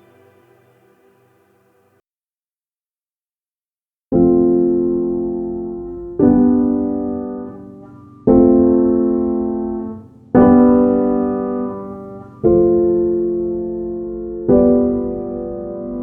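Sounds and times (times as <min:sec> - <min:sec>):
slow piano chords: 0:00.0 - 0:01.9, 0:04.2 - 0:16.0.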